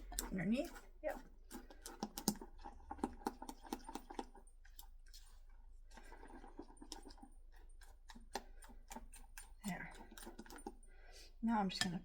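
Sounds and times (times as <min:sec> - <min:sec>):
utensil scraping mixing bowl: 0:00.0 - 0:12.0.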